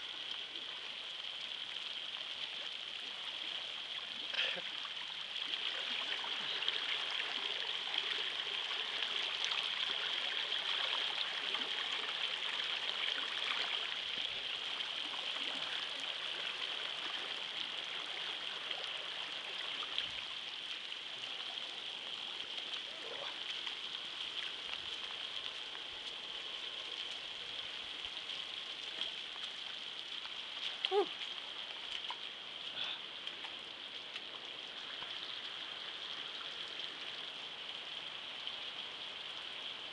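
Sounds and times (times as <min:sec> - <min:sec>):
floodwater running: 0:00.0 - 0:39.9
rain falling: 0:00.0 - 0:39.9.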